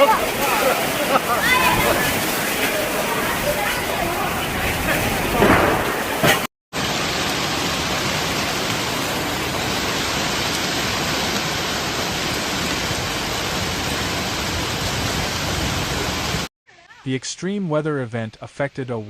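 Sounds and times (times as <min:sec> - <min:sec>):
heavy rain pouring: 0:00.0 - 0:16.5.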